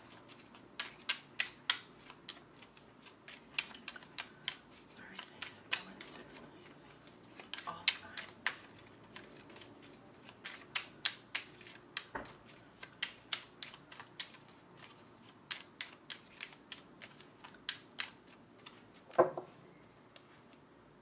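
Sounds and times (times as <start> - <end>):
cards being shuffled: 0.0 - 19.5.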